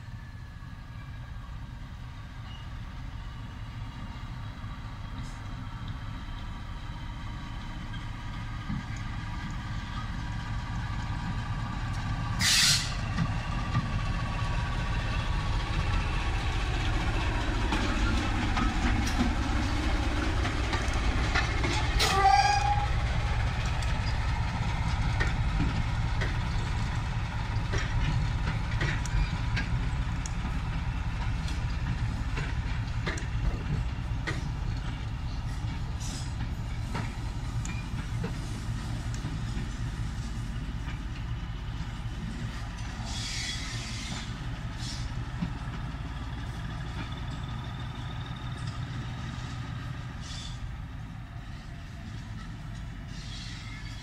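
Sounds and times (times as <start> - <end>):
diesel locomotive engine running: 0.0 - 54.0
train wheels clicking over rail joints: 3.8 - 54.0.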